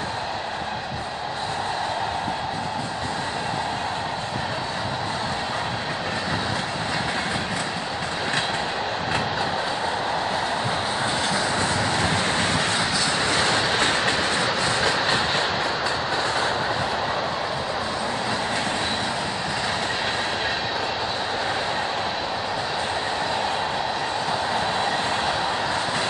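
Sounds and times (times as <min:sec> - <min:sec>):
train wheels rumbling on rails: 0:00.0 - 0:26.0
wheels clicking over rail joints: 0:00.0 - 0:26.0.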